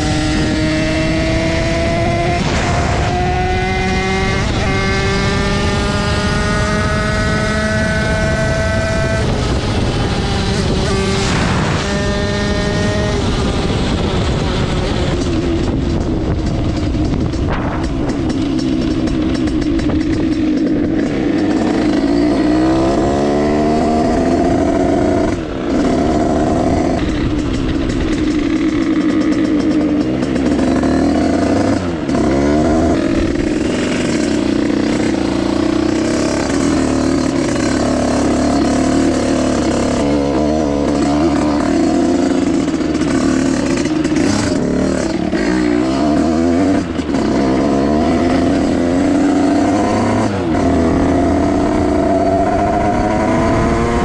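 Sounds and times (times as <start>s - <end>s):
two-stroke engine running: 0.0s - 54.0s.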